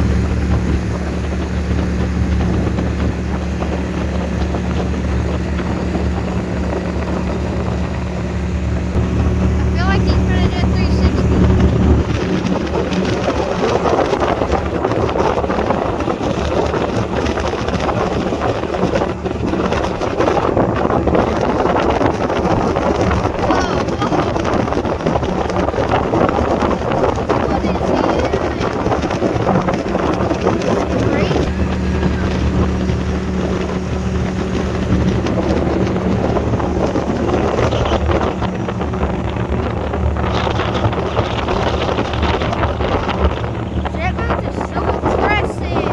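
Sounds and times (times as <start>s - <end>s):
boat engine running: 0.0s - 45.9s
wind buffeting microphone: 0.0s - 45.9s.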